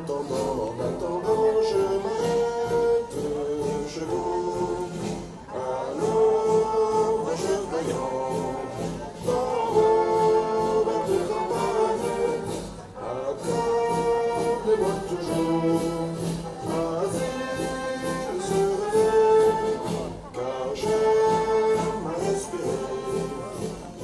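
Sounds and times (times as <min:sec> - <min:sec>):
brass band music: 0:00.0 - 0:24.0.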